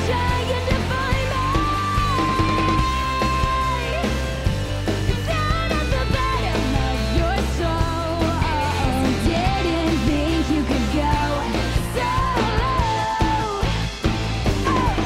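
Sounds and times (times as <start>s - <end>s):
woman singing: 0.0s - 4.4s, 5.1s - 13.9s, 14.6s - 15.0s
bass guitar: 0.0s - 15.0s
drums: 0.0s - 15.0s
electric guitar: 0.0s - 15.0s.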